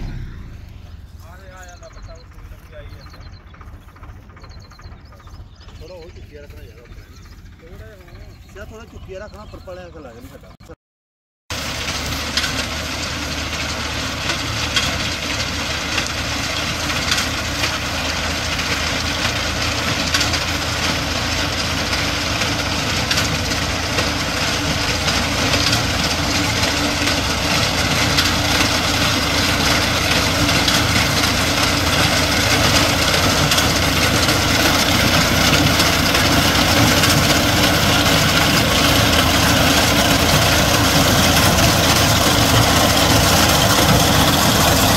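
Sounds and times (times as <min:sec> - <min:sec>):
diesel tractor engine running: 0:00.0 - 0:10.7, 0:11.5 - 0:44.9.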